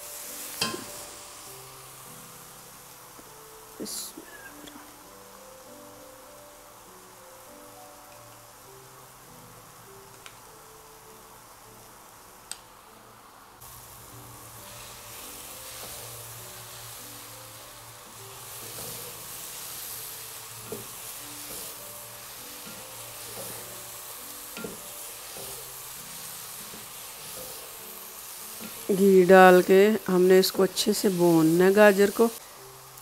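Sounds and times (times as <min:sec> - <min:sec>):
carrots sizzling in ghee: 0:00.0 - 0:33.0.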